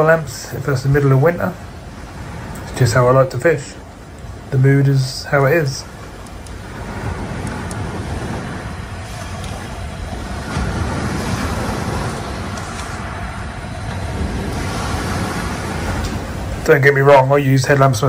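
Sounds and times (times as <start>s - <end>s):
sea surf rushing on beach: 0.0s - 18.0s
wind rumbling on microphone: 0.0s - 18.0s.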